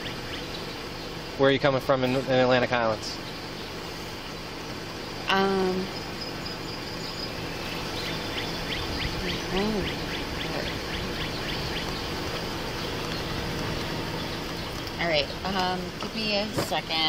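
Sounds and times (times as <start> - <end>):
bird trilling: 0.0 - 1.3, 3.1 - 16.4.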